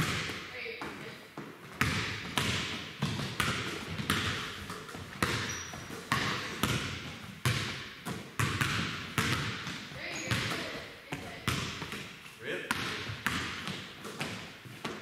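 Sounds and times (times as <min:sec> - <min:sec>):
basketballs bouncing on wood floor: 0:00.0 - 0:15.0.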